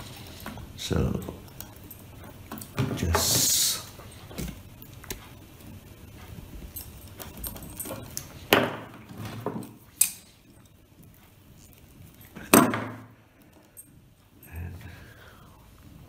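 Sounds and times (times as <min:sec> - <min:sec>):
wires clicking and rustling: 0:00.0 - 0:16.0.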